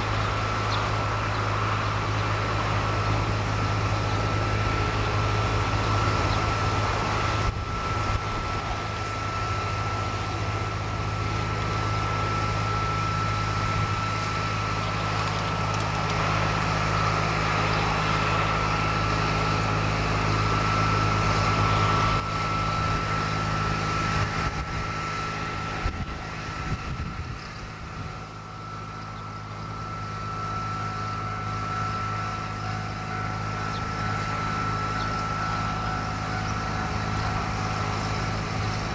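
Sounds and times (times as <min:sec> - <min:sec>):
distant vehicle drone: 0:00.0 - 0:38.9
high-pitched whine: 0:00.0 - 0:38.9.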